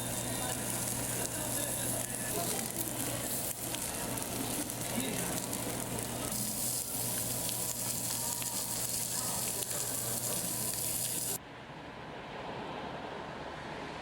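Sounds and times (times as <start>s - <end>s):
food sizzling in hot fat: 0.0s - 11.4s.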